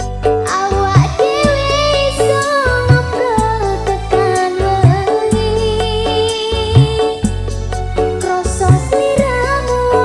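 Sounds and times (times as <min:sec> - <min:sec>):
melodic instrumental music with beat: 0:00.0 - 0:10.0.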